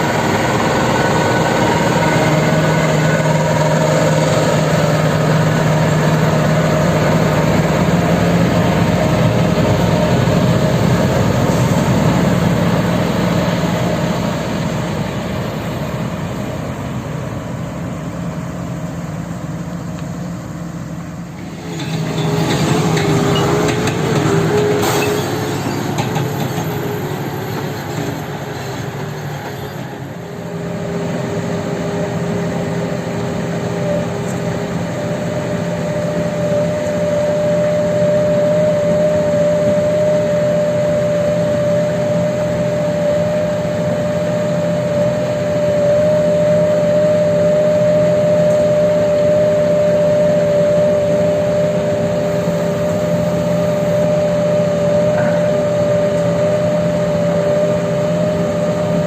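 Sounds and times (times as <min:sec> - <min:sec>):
heavy diesel machinery running: 0:00.0 - 0:59.0
steady whine: 0:00.0 - 0:59.0.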